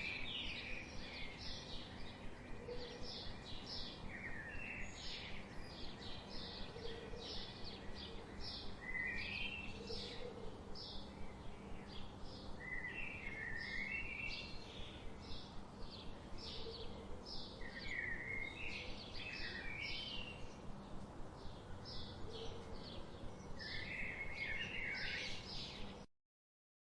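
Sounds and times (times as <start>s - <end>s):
birds chirping: 0.0s - 26.1s.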